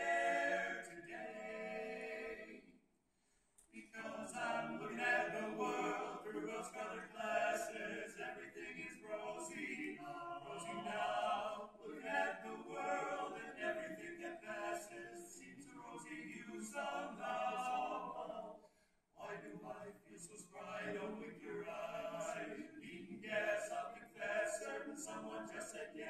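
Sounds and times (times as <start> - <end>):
male vocal quartet singing: 0.0 - 2.6, 3.8 - 18.6, 19.2 - 26.0.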